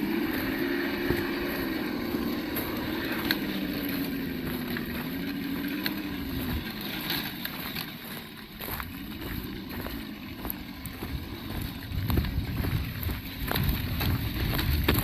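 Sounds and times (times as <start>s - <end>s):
simulated engine sound: 0.0s - 15.0s.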